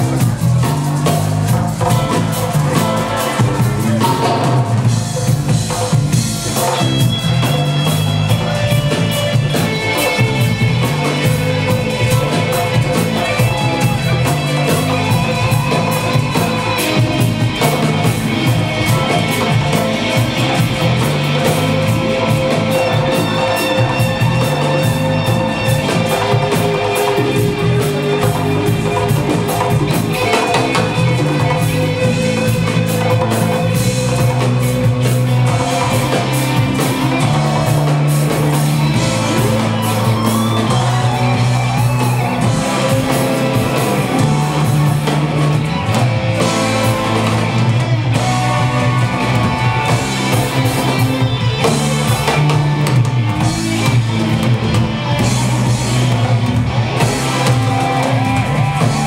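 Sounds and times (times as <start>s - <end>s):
bass line: 0.0s - 59.0s
drum kit: 0.0s - 59.0s
electric guitar: 0.0s - 59.0s
keyboards: 0.0s - 59.0s.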